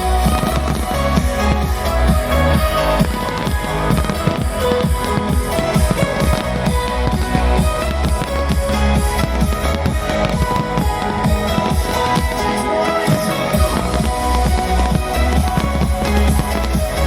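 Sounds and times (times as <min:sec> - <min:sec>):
loud music with drums and guitar: 0:00.0 - 0:17.0.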